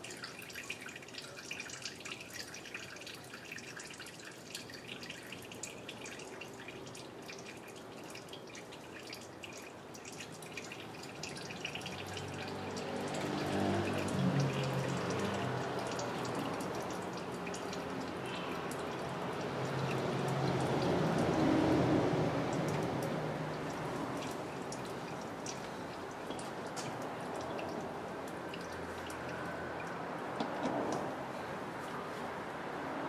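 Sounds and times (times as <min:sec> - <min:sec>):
fluid trickling and dripping: 0:00.0 - 0:33.0.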